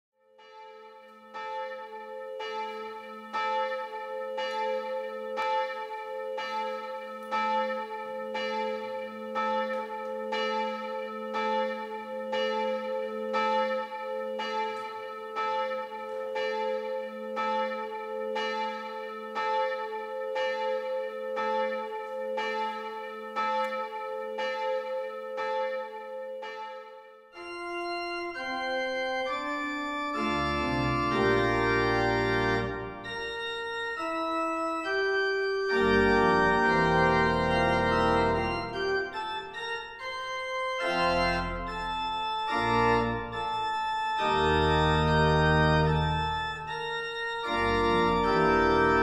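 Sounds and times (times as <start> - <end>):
church bell tolling: 0.4 - 49.0.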